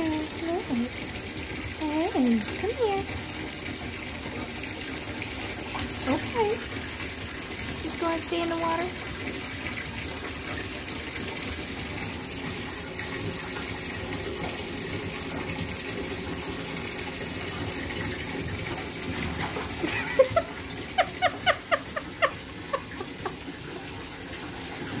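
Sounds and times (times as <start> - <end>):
tap water running into bathtub: 0.0 - 25.0.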